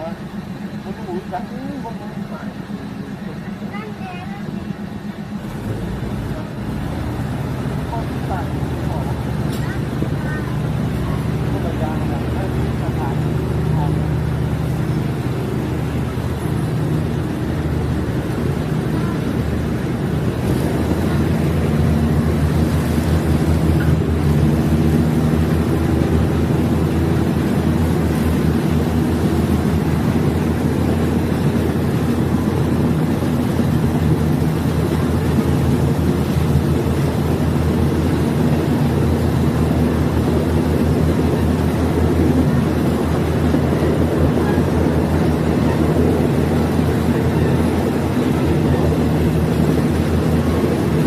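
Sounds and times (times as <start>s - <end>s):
diesel railcar engine droning: 0.0s - 51.0s.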